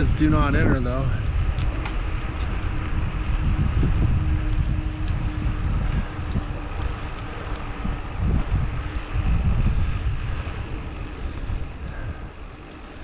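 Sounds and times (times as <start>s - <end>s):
bicycle tyres on asphalt: 0.0s - 13.0s
faint steady hum: 0.0s - 13.0s
wind rumbling on microphone: 0.0s - 13.0s.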